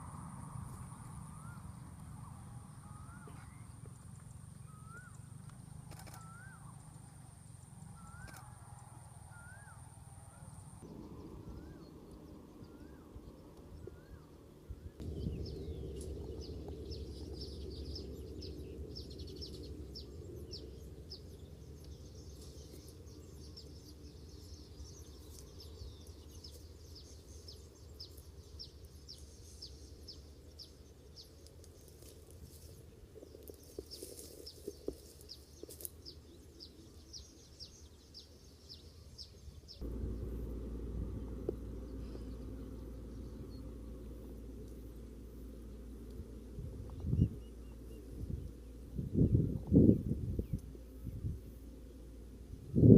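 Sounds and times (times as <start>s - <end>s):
low background rumble: 0.0s - 52.9s.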